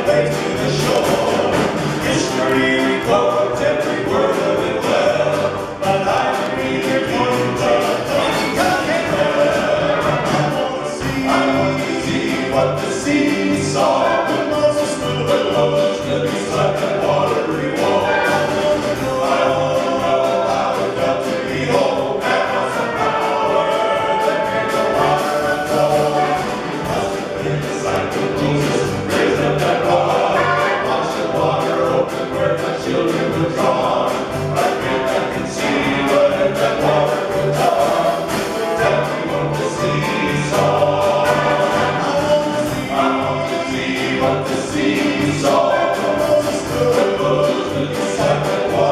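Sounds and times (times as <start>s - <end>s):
gospel group singing: 0.0s - 48.9s
pulsing beat: 0.0s - 48.9s.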